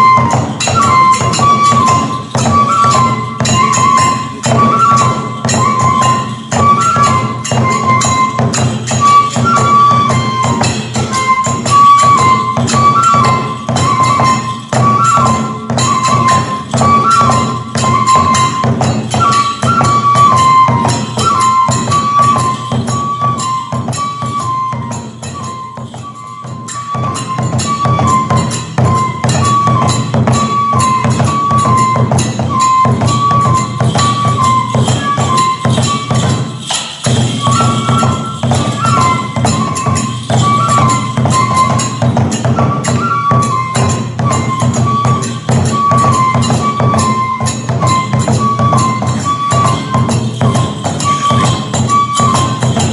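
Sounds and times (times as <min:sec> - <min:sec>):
bamboo flute melody: 0:00.0 - 0:52.9
drum beat: 0:00.0 - 0:52.9
small hand cymbals: 0:00.0 - 0:52.9.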